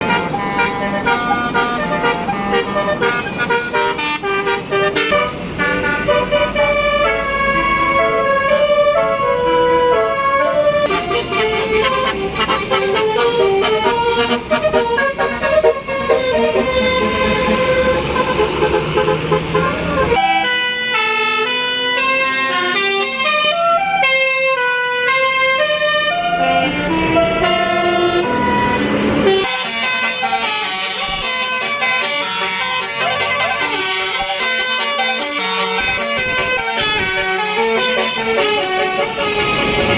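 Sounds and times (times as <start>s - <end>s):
bus musical horn tune: 0.0s - 39.9s.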